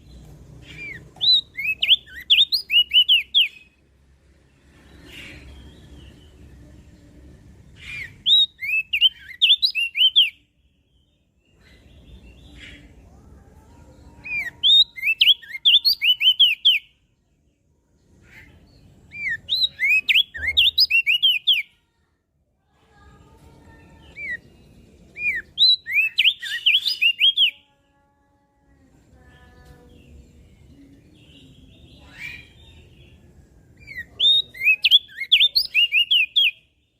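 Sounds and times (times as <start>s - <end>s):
bird singing chirpy notes: 0.0s - 3.9s, 4.6s - 13.2s, 13.9s - 17.0s, 18.3s - 21.8s, 23.6s - 27.7s, 29.2s - 36.9s.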